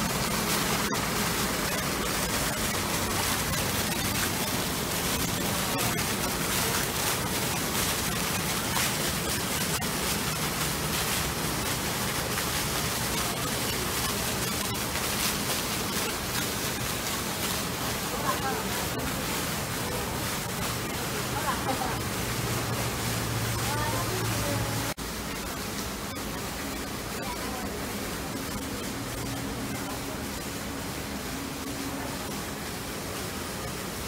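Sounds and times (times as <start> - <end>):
falling water rushing: 0.0 - 34.0.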